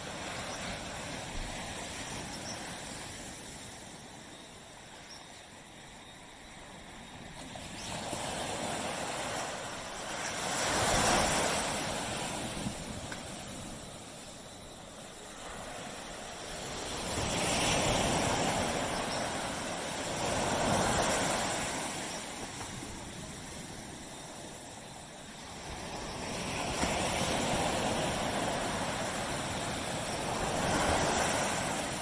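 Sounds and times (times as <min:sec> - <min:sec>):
sea waves breaking on a beach: 0:00.0 - 0:32.0.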